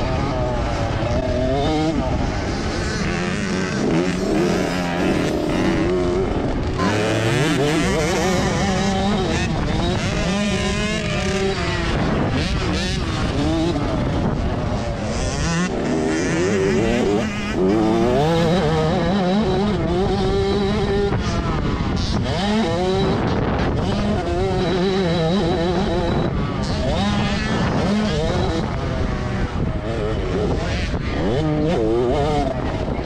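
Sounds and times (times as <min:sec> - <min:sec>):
motocross bikes revving: 0:00.0 - 0:33.0.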